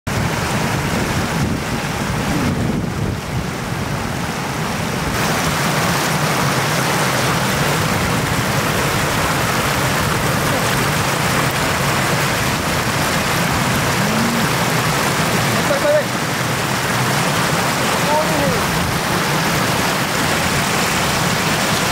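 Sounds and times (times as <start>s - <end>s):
floodwater rushing: 0.1s - 21.9s.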